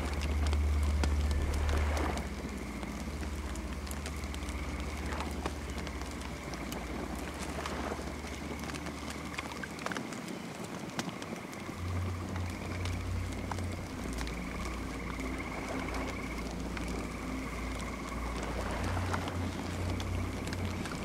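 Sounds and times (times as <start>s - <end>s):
low rumble: 0.0s - 9.7s, 11.7s - 21.0s
campfire crackling and popping: 0.0s - 21.0s
crickets chirring: 0.0s - 21.0s.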